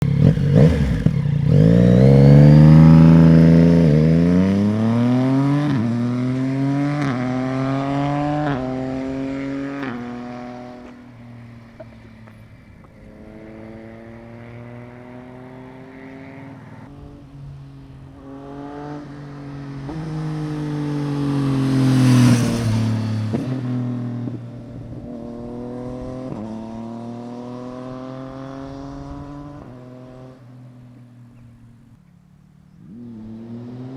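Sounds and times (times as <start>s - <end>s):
motorcycle engine accelerating: 0.0s - 31.9s, 32.6s - 33.9s.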